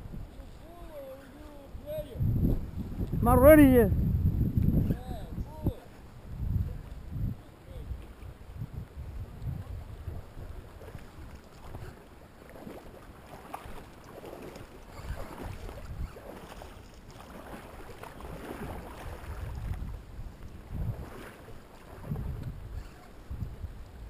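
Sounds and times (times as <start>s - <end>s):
wind gusting on microphone: 0.0s - 12.0s, 12.6s - 24.0s.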